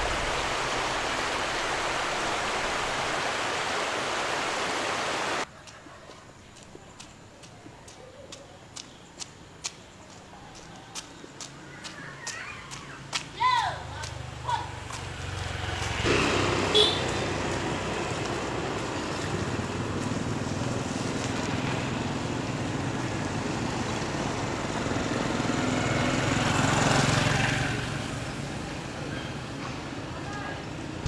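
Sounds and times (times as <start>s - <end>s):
road noise: 0.0s - 5.5s, 6.3s - 31.0s.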